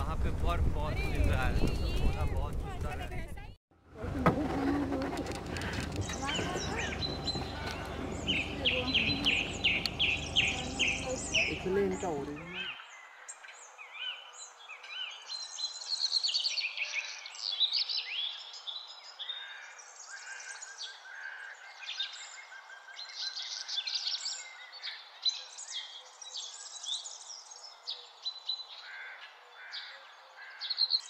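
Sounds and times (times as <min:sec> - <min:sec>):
small birds chirping: 0:05.1 - 0:31.0.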